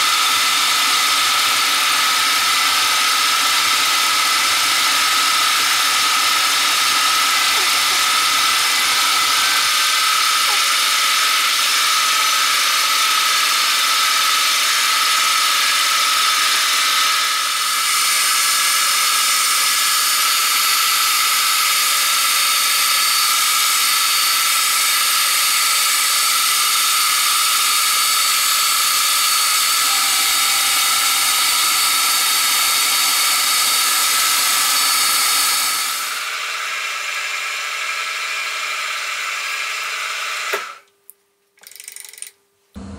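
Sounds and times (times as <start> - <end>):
milling machine cutting steel: 0.0 - 40.8.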